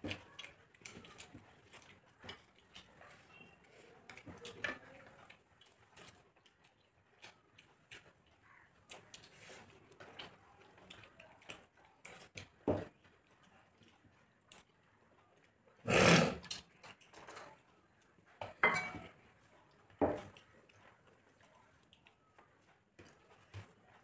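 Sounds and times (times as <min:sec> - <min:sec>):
people chewing: 0:00.0 - 0:24.0.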